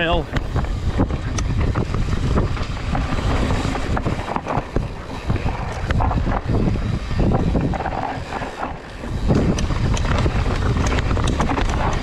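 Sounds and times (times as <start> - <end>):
tyre rumble: 0.0 - 12.0
wind buffeting microphone: 0.0 - 12.0
bike clacking and rattling on rocks: 0.3 - 12.0.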